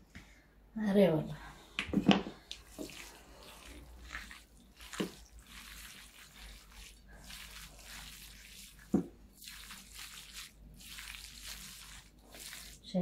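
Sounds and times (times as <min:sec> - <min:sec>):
hands squelching wet food: 0:01.6 - 0:13.0.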